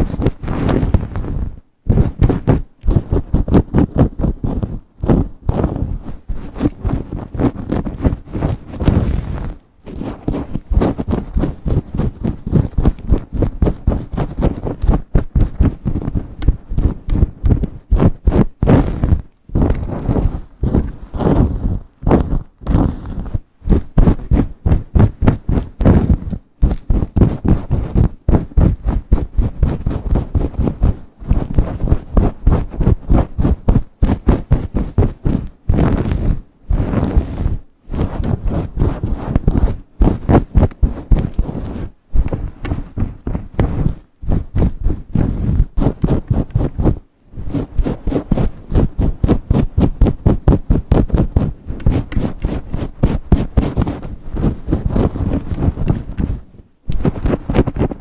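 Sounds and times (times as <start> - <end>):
nails scratching through hair: 0.0 - 58.0.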